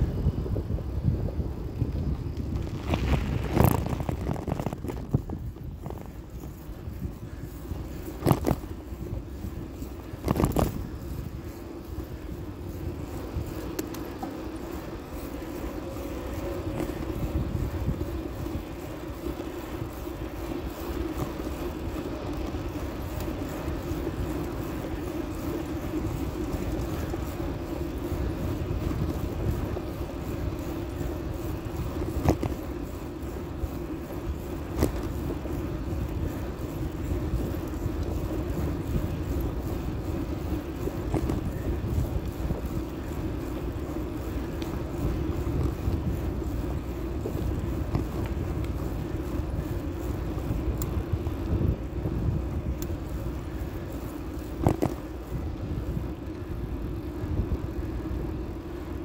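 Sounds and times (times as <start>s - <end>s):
tyres rolling on asphalt: 0.0s - 59.0s
wind rumble on microphone: 0.0s - 59.0s.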